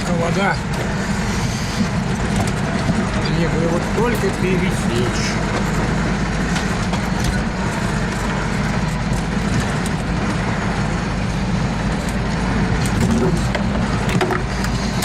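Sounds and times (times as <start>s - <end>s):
vehicle engine running under load: 0.0s - 15.0s.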